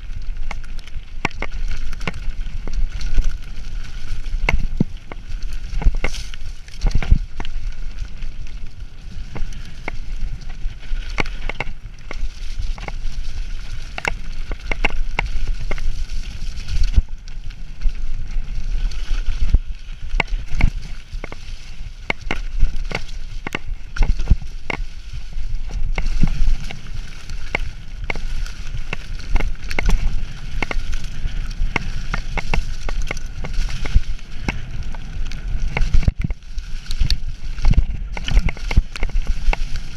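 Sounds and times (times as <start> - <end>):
bike rattling over bumps: 0.0 - 39.9
wind buffeting microphone: 0.0 - 39.9.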